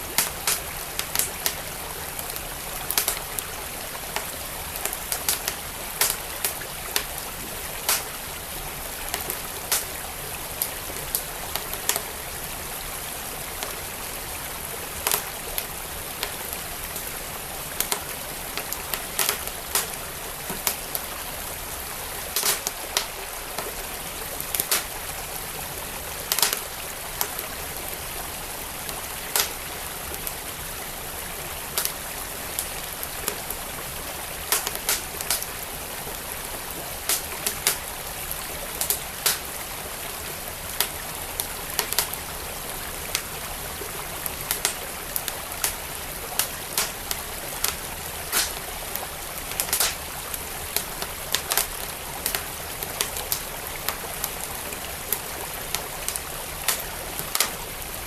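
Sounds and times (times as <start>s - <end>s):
flowing stream: 0.0s - 58.0s
wood fire crackling: 0.0s - 58.0s.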